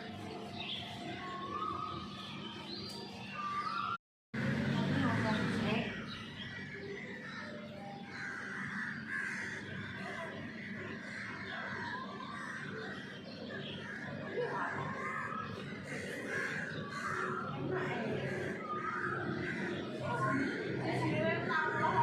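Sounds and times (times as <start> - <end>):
many birds chattering: 0.0 - 22.0.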